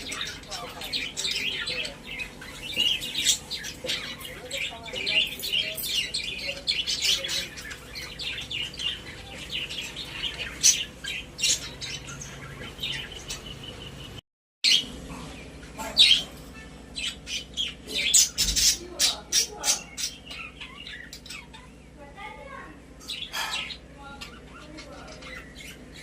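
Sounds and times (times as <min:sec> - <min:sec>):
budgerigars chirping: 0:00.0 - 0:22.0, 0:23.0 - 0:26.0.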